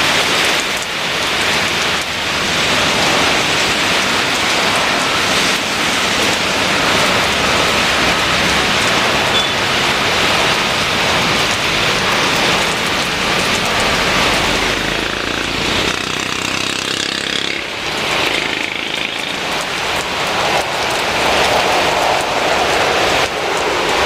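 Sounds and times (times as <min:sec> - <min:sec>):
jet airliner engines: 0:00.0 - 0:16.2, 0:17.6 - 0:24.0
heavy rain: 0:00.0 - 0:24.0.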